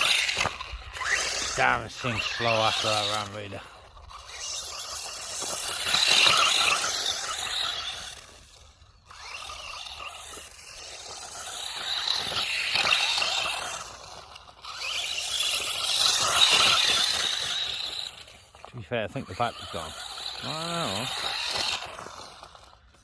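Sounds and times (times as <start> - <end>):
rc car scraping and whirring: 0.0 - 23.0.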